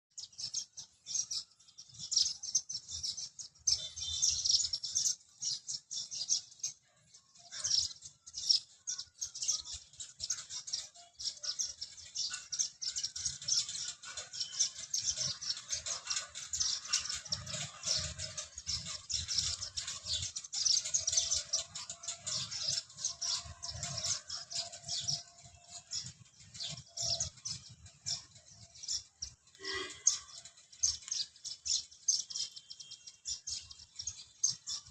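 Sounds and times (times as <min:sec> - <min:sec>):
flock of small birds chirping: 0:00.1 - 0:34.9.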